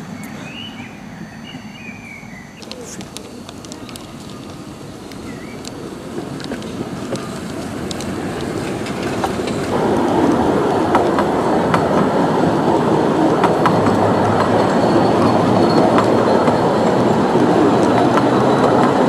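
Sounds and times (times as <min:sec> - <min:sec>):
train wheels clicking over rail joints: 0:02.6 - 0:19.0.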